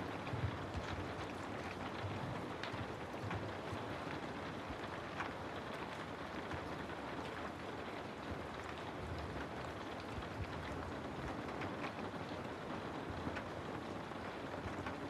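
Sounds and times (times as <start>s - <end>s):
faint raindrop ticks: 0.0s - 15.0s.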